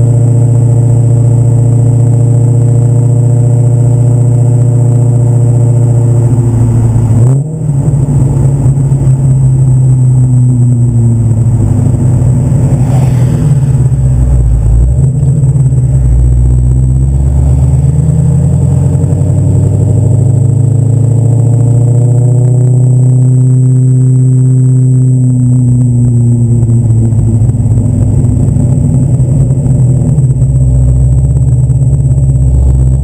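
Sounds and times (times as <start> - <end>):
loud car exhaust revving: 0.0 - 33.0.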